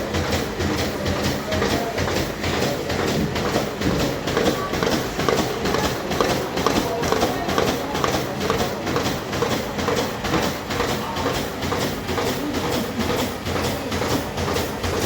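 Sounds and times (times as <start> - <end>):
printing machine clattering: 0.0 - 15.0.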